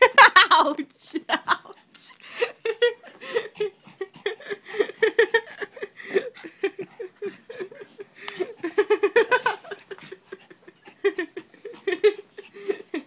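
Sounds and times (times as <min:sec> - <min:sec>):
person giggling: 0:00.0 - 0:13.0.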